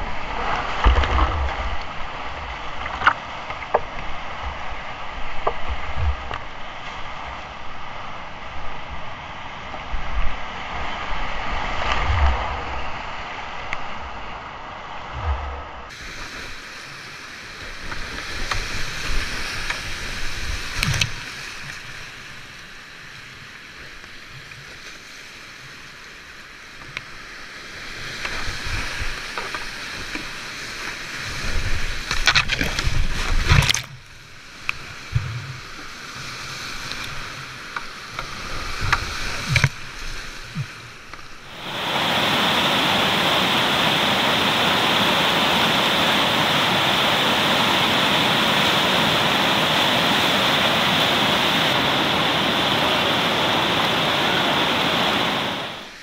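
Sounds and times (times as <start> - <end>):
whitewater rushing and splashing: 0.0 - 56.0.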